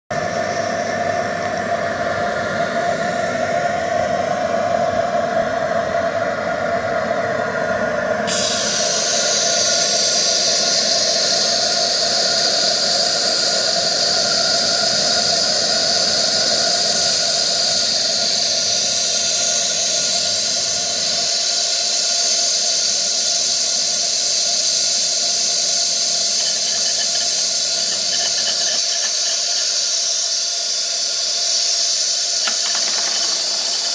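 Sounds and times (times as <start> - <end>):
steam hissing: 0.1 - 33.9
high-pitched steam hiss: 0.2 - 6.2, 8.2 - 33.9.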